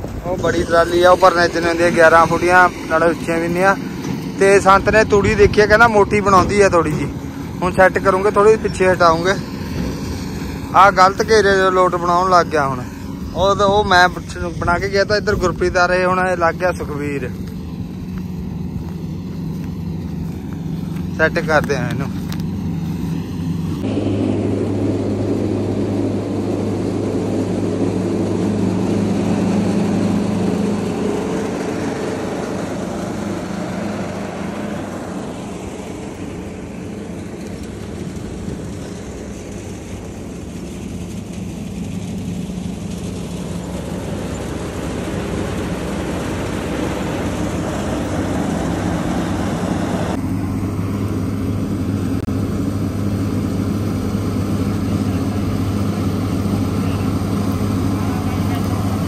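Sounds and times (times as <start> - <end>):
tractor engines droning under load: 0.0 - 59.0.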